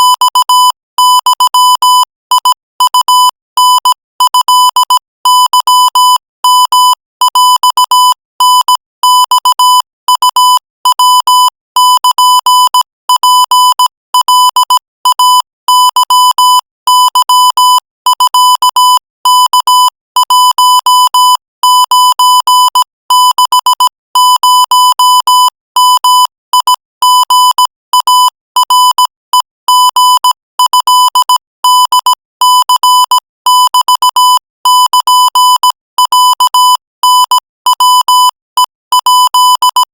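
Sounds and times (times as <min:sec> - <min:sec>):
morse code beeping tone: 0:00.0 - 0:39.9.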